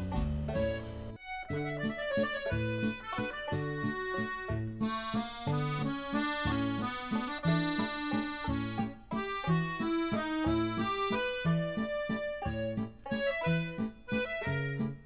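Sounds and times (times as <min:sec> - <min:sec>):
comical accordion music: 0:00.0 - 0:15.0.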